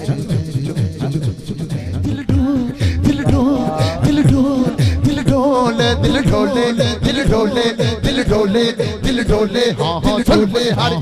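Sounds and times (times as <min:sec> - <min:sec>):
low rhythmic accompaniment: 0:00.0 - 0:11.0
man singing into microphone: 0:00.0 - 0:11.0.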